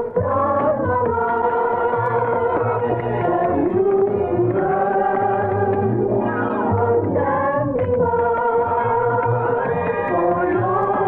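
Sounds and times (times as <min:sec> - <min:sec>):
choir singing held notes: 0:00.0 - 0:11.0.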